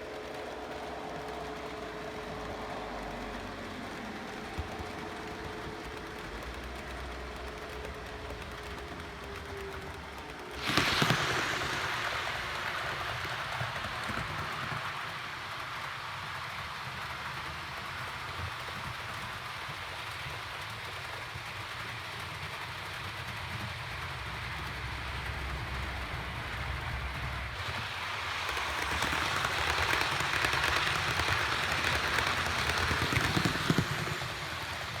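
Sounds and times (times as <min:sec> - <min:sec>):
model trains rumbling on track: 0:00.0 - 0:35.0.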